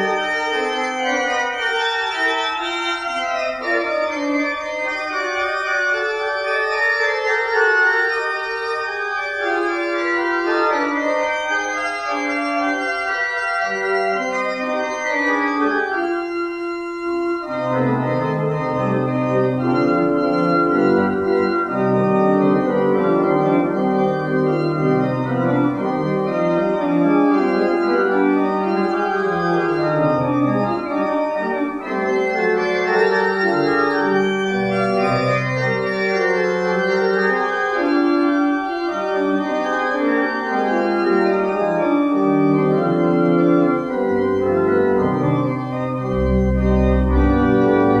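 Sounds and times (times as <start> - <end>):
low organ bass notes: 0.0 - 48.0
organ playing hymn chords: 0.0 - 48.0.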